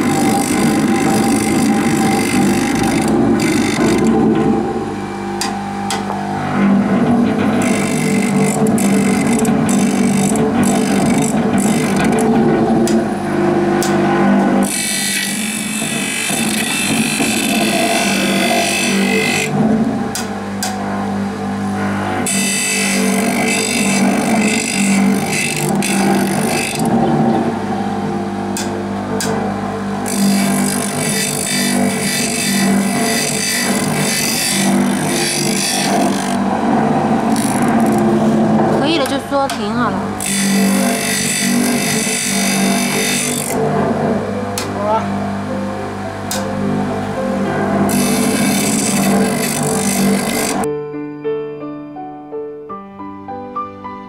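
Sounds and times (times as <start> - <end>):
grinder motor hum: 0.0 - 50.7
wheel grinding steel blade: 0.0 - 50.7.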